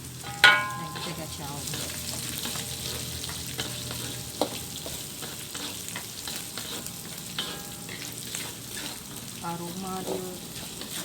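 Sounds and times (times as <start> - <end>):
vegetables sizzling in hot oil: 0.0 - 11.0
utensil scraping a pan: 0.2 - 11.0.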